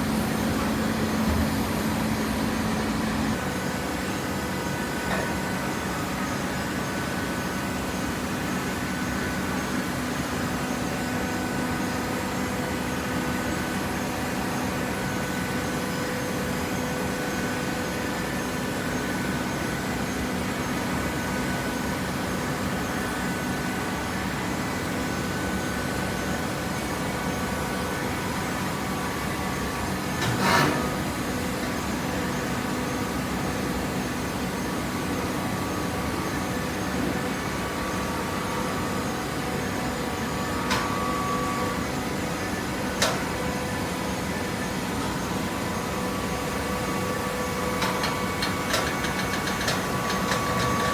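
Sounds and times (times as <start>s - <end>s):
electric motor and hydraulic pump humming: 0.0s - 50.9s.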